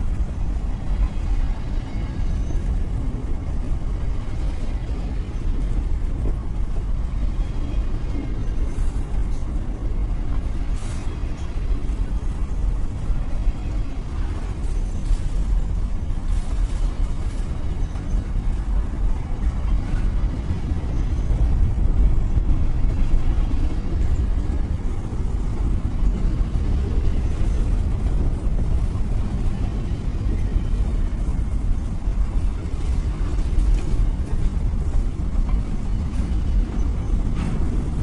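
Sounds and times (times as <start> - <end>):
diesel locomotive rumbling: 0.0 - 38.0.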